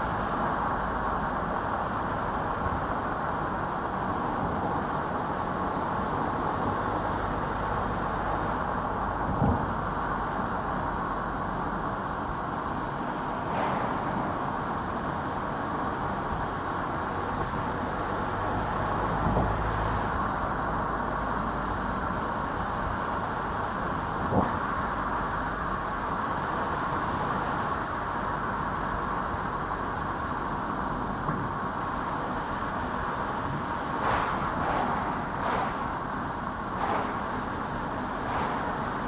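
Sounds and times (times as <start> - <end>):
road and tyre noise: 0.0 - 39.0.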